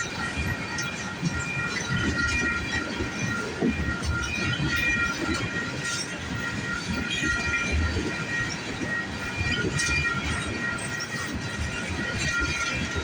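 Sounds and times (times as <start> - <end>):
high squealing from train wheels: 0.0 - 13.0
train wheels clattering over rail joints: 0.0 - 13.0.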